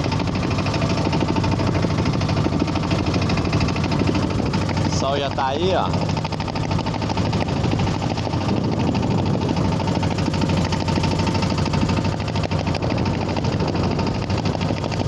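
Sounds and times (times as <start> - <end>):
boat engine running: 0.0 - 15.0
water rushing past hull: 0.0 - 15.0.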